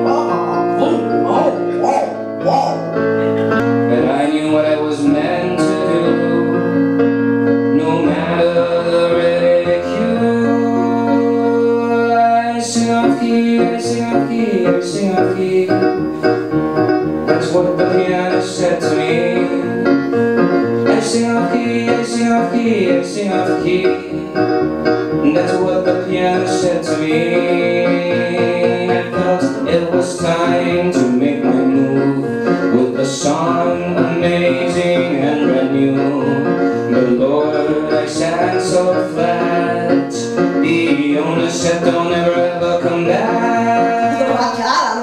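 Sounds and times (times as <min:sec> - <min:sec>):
electronic keyboard chords: 0:00.0 - 0:45.0.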